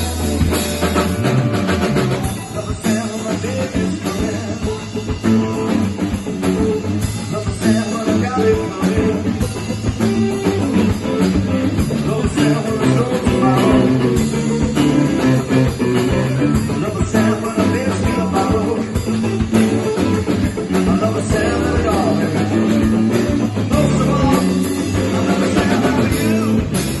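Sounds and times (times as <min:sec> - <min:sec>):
guitar: 0:00.0 - 0:27.0
steady drum beat: 0:00.0 - 0:27.0.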